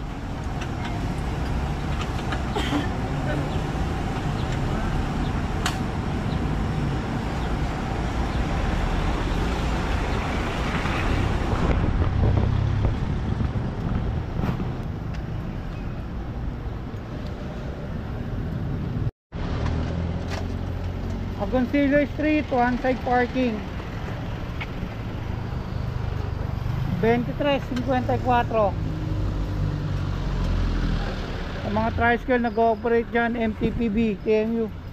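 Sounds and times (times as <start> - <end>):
city street traffic: 0.0 - 34.9.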